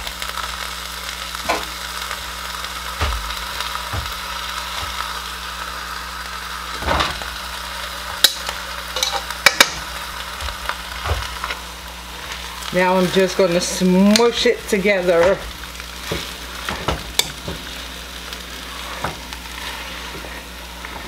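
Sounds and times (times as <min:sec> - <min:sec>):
potatoes sizzling in a pot: 0:00.0 - 0:21.0.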